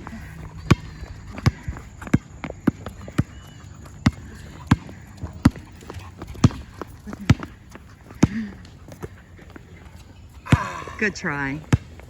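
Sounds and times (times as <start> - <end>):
basketball bouncing on hard court: 0.0 - 9.1, 10.5 - 12.0.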